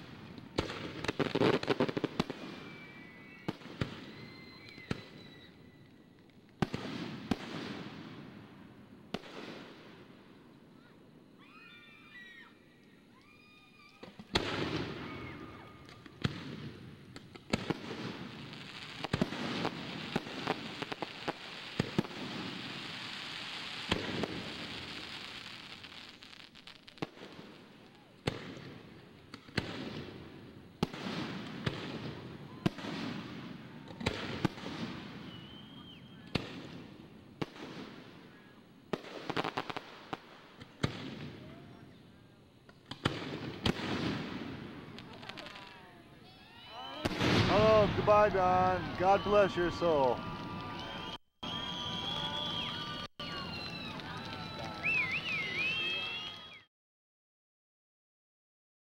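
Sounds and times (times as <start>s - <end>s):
firework crackling: 0.0s - 56.6s.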